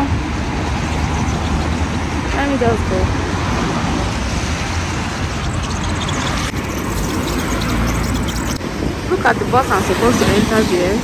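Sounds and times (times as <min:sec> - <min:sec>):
cars and buses passing: 0:00.0 - 0:11.0.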